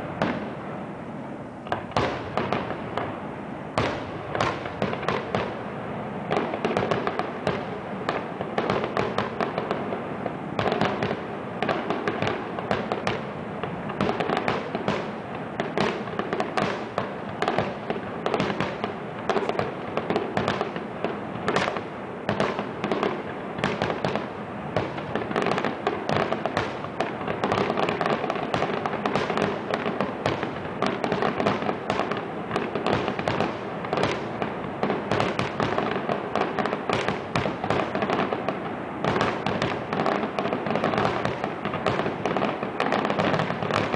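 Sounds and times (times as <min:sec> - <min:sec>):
fireworks bursting and crackling: 0:00.0 - 0:43.9.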